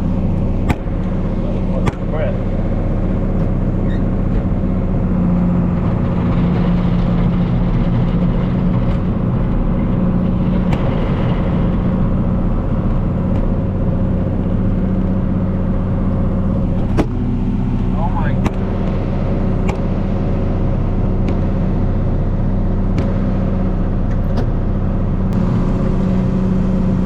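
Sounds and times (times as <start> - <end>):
engine running steadily: 0.0 - 27.0.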